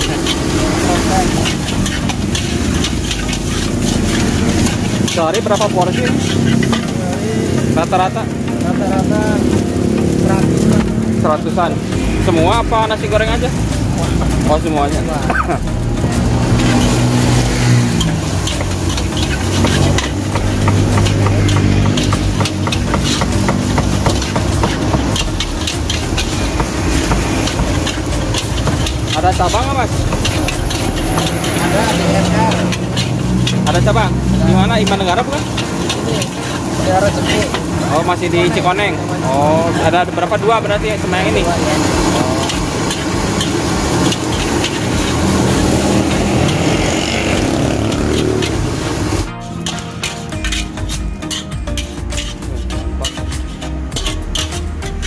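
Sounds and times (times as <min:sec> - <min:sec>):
gas burner rushing: 0:00.0 - 0:54.5
metal spatula scraping wok: 0:00.0 - 0:55.0.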